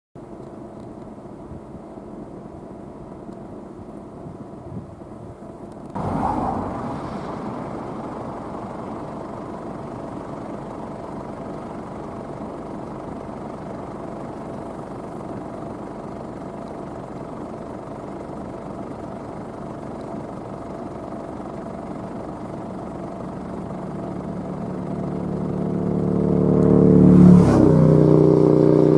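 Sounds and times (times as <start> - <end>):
combine harvester droning: 0.2 - 28.9.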